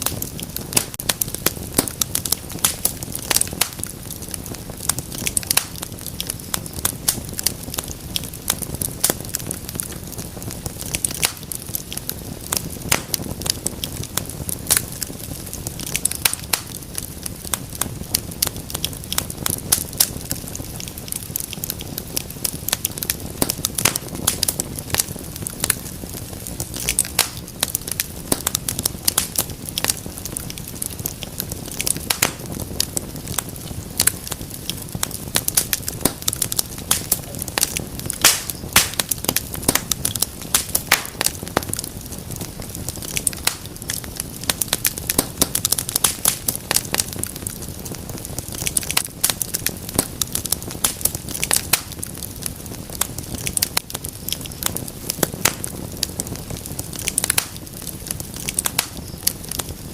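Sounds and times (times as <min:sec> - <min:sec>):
fire crackling and popping: 0:00.0 - 0:59.9
low rush of flames: 0:00.0 - 0:59.9.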